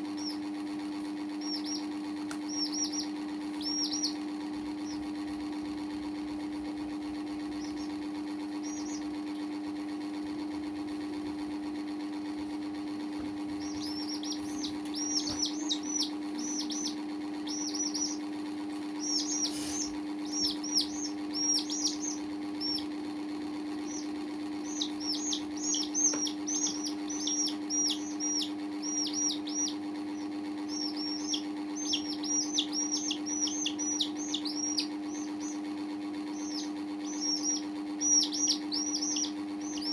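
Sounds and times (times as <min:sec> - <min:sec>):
baby chicks peeping: 0:00.0 - 0:10.5, 0:13.0 - 0:39.9
steady low hum: 0:00.0 - 0:39.9.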